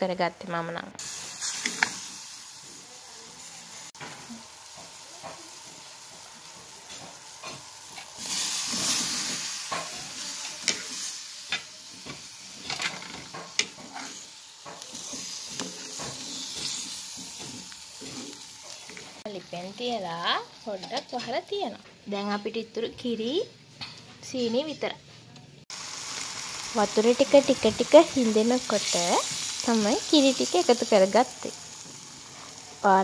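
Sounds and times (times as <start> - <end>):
liquid simmering and sizzling: 1.0 - 21.6, 25.6 - 33.0.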